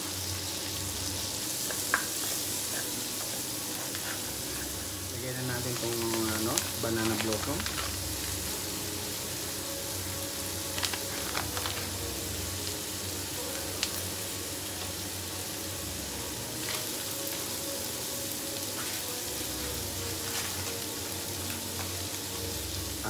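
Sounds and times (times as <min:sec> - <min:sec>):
garlic and onions sizzling in oil: 0:00.0 - 0:23.0.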